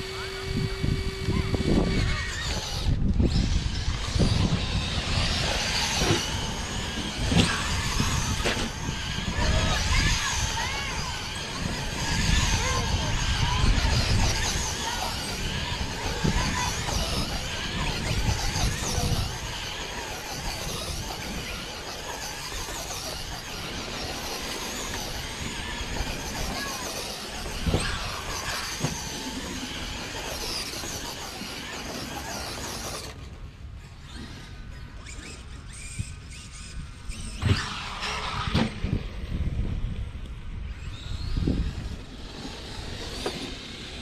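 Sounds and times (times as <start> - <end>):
rc car motors whining: 0.0 - 44.0
tyre and chassis noise: 0.0 - 44.0.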